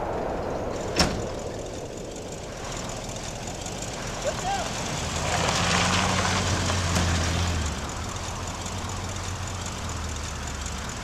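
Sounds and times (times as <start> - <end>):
road noise: 0.0 - 11.0
car engine running: 0.1 - 11.0.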